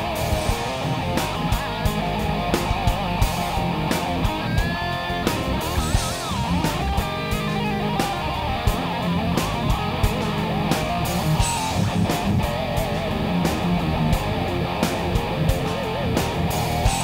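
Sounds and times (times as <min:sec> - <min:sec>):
electric guitar riffing: 0:00.0 - 0:17.0.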